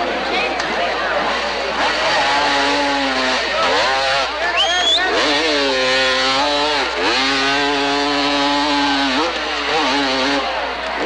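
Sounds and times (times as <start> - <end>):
motorcycle engine pulling hard: 0.0 - 11.0.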